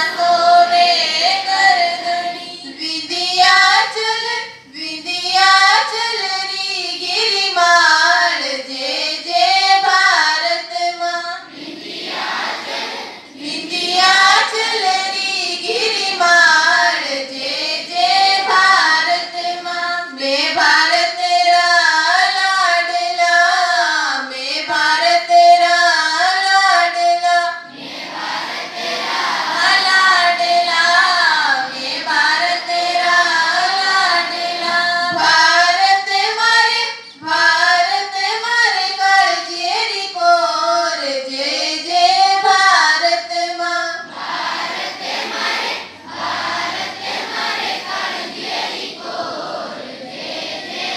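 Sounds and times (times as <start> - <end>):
children singing in chorus: 0.0 - 42.8, 43.5 - 50.9.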